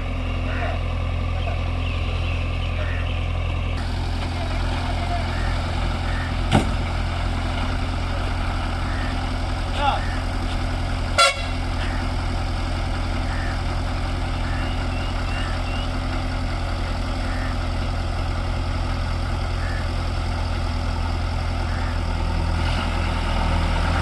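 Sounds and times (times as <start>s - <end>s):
diesel engine idling low: 0.0s - 24.0s.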